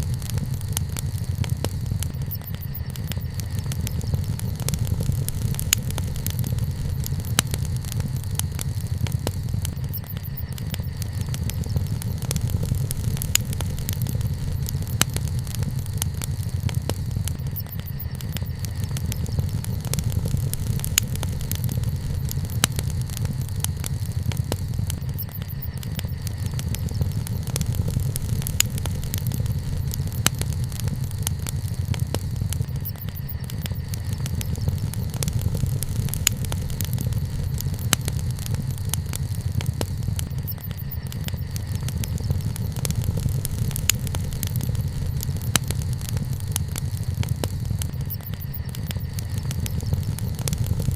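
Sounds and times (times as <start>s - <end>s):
low fire rumble: 0.0s - 50.9s
wood fire crackling and popping: 0.0s - 50.9s.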